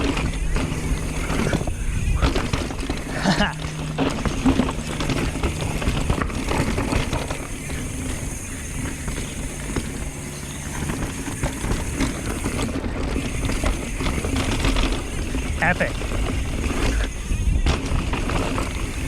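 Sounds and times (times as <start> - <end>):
bicycle rear hub buzzing: 0.0 - 19.0
bike frame and chain rattling: 0.0 - 19.0
tyres rumbling over dirt trail: 0.0 - 19.0
wind on microphone: 0.0 - 19.0.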